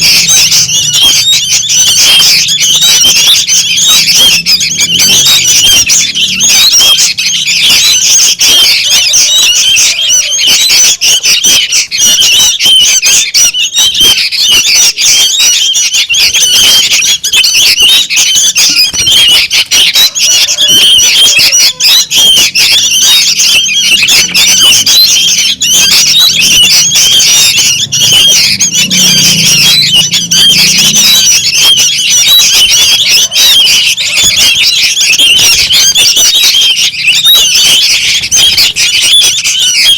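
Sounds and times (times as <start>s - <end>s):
young bulbuls chattering: 0.0s - 39.9s.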